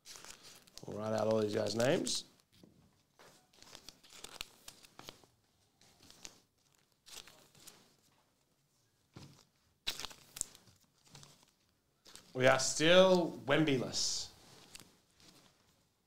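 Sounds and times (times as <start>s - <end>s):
trading cards and foil wrappers crinkling: 0.0s - 2.6s, 3.3s - 8.1s, 9.3s - 13.2s, 14.0s - 15.8s.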